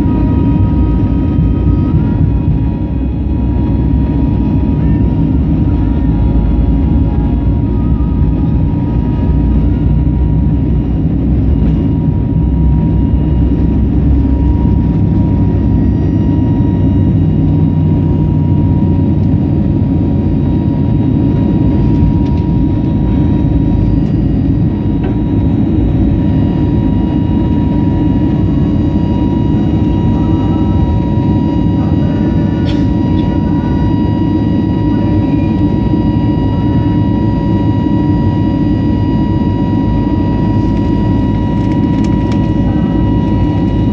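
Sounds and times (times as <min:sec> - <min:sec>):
jet engine and airflow rumble: 0:00.0 - 0:43.9
thin steady whine: 0:00.0 - 0:43.9.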